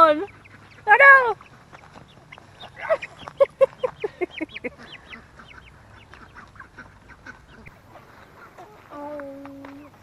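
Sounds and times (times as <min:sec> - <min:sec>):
chickens squawking and clucking: 0:00.0 - 0:09.0.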